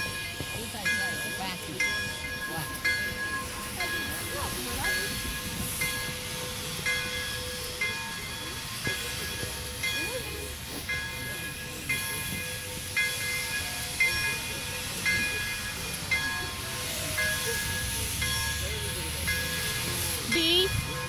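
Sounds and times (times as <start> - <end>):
steam hissing: 0.0 - 21.0
steam locomotive bell ringing: 0.0 - 21.0.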